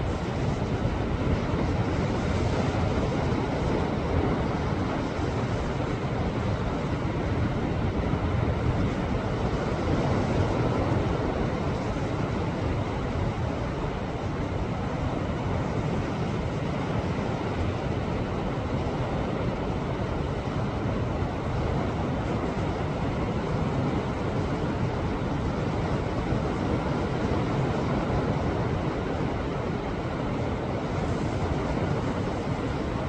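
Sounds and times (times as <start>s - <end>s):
wind on microphone: 0.0s - 33.0s.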